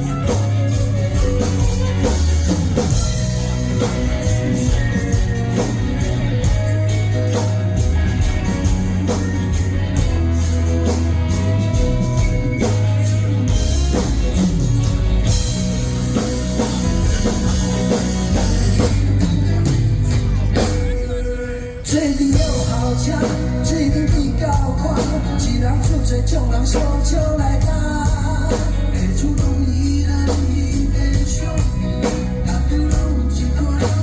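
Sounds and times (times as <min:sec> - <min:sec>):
drum kit steady beat: 0:00.0 - 0:34.0
live rock band instrumental: 0:00.0 - 0:34.0.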